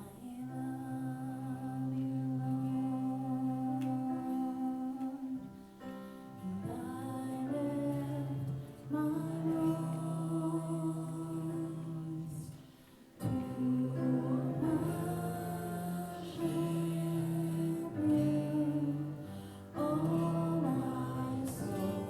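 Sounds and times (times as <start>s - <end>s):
worship music with singing: 0.0s - 22.0s.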